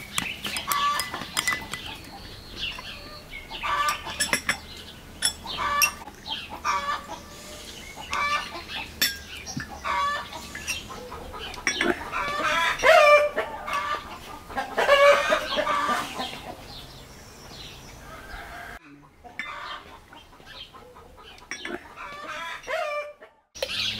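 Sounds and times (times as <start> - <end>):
chickens clucking: 0.2 - 23.9.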